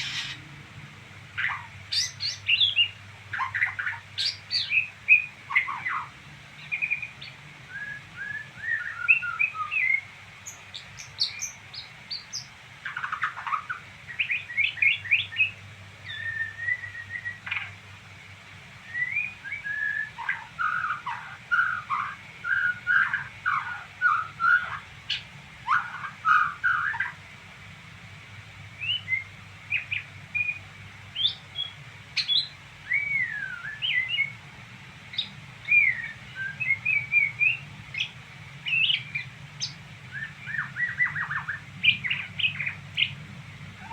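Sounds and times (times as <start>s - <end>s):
songbird twittering: 0.0s - 0.5s, 1.4s - 17.8s, 18.8s - 27.2s, 28.8s - 34.4s, 35.1s - 43.2s.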